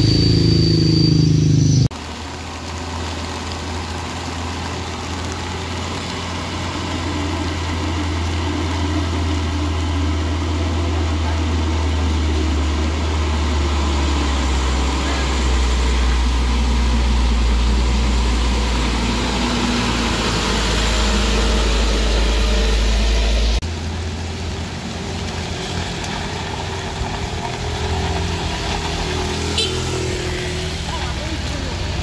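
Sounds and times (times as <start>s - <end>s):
road traffic: 0.0s - 32.0s
truck engines rumbling: 0.0s - 32.0s.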